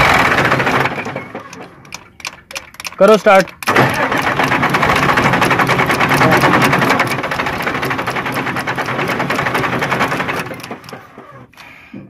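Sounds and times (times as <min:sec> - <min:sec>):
diesel engine cranking: 0:00.0 - 0:12.0.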